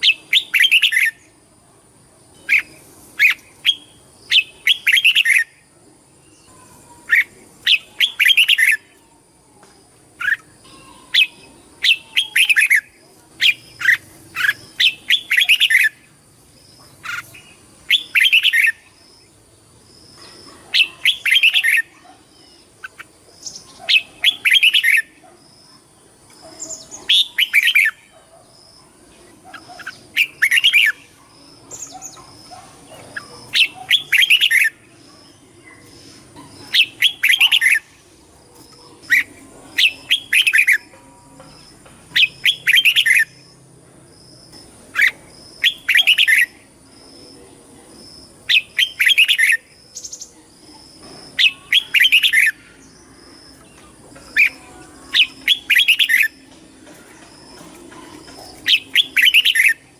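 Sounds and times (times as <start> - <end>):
bird singing chattering phrases: 0.0 - 59.9.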